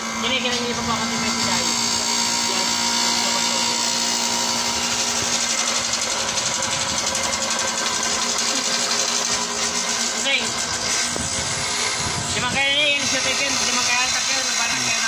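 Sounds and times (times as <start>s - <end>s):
bench grinder motor humming: 0.0s - 15.0s
high-pitched grinding hiss: 0.9s - 15.0s.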